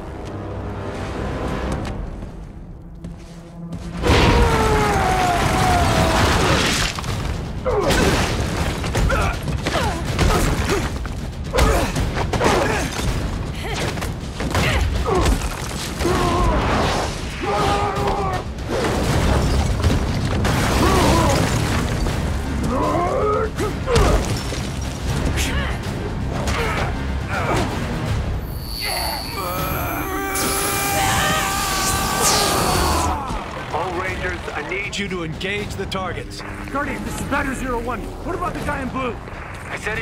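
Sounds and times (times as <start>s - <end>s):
film music: 0.0s - 40.0s.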